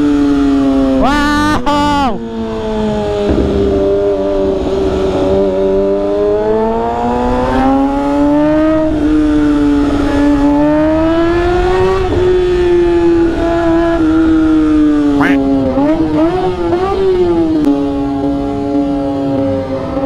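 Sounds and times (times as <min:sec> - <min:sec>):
motorcycle engine accelerating: 0:02.2 - 0:20.0.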